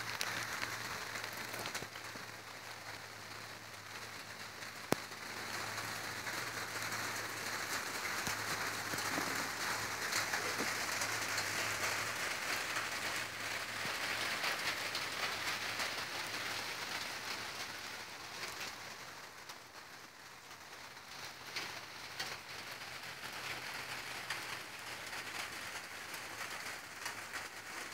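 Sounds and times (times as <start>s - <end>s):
rain falling: 0.0s - 27.9s.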